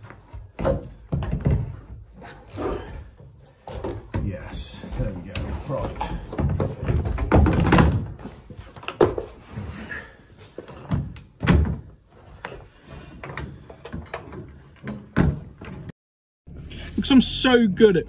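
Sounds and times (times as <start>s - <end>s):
knocks bumps and scrapes: 0.0s - 15.9s.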